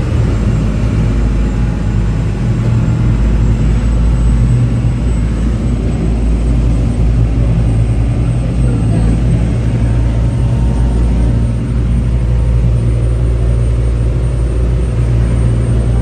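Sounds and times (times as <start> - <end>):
motorboat engine hum: 0.0 - 16.0
wind and water rumble: 0.0 - 16.0.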